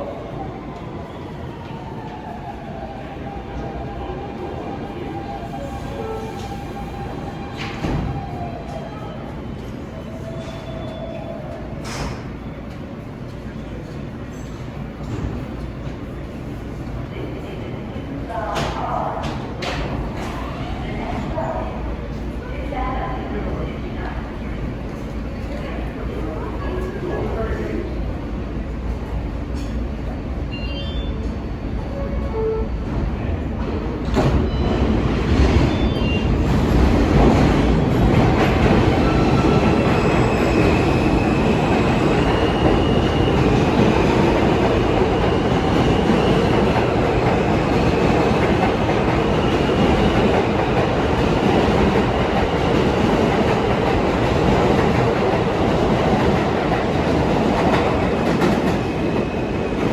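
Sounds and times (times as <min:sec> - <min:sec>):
subway train rumbling on rails: 0:00.0 - 0:59.9.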